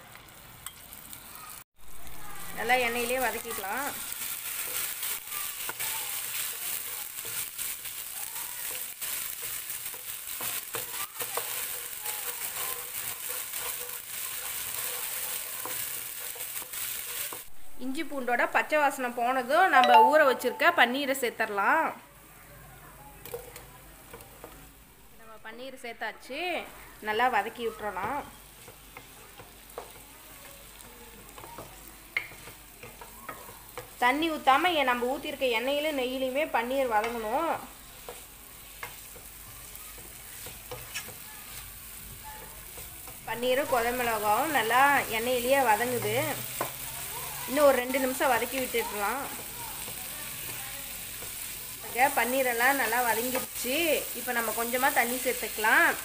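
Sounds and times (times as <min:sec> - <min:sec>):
paste sizzling in hot oil: 0:00.0 - 0:19.8, 0:26.6 - 0:56.0.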